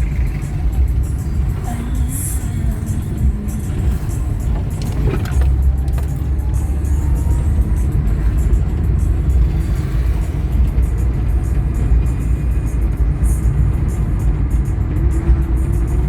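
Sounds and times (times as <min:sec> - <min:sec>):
car engine and tyres rumble: 0:00.0 - 0:16.0
music playing: 0:00.0 - 0:16.0.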